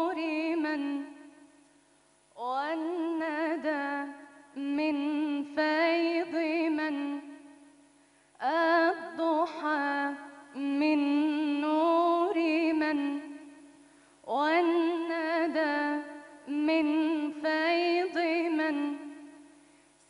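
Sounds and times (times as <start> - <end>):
woman singing religious chant: 0.0 - 1.6, 2.4 - 19.6.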